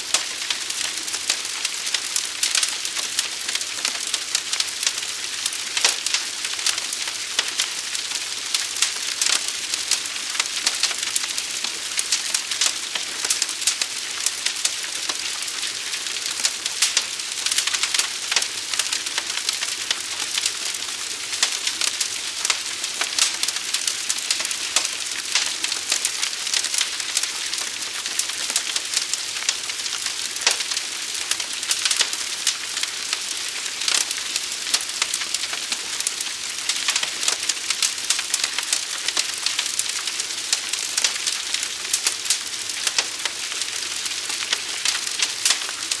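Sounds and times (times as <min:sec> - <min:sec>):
fire crackling and popping: 0:00.0 - 0:46.0
steady fire hiss: 0:00.0 - 0:46.0.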